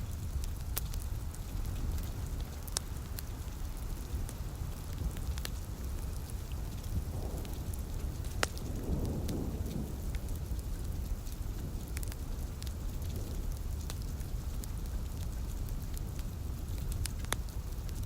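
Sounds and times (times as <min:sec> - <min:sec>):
steady rain: 0:00.0 - 0:18.0
wood fire crackling and popping: 0:00.0 - 0:18.0.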